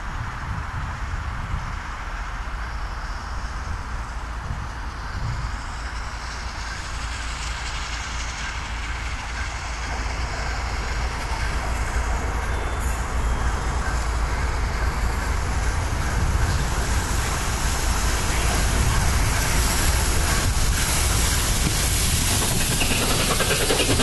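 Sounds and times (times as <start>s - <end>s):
steam locomotive working hard: 0.0s - 24.0s.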